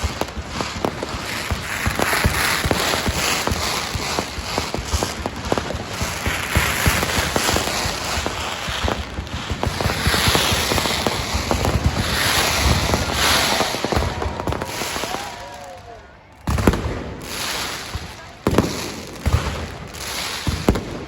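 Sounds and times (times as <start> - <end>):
firecrackers crackling: 0.0 - 21.0.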